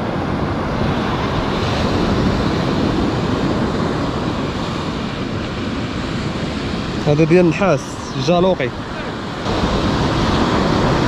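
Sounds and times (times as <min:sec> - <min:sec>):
surf washing up beach: 0:00.0 - 0:11.0
wind buffeting microphone: 0:00.0 - 0:11.0.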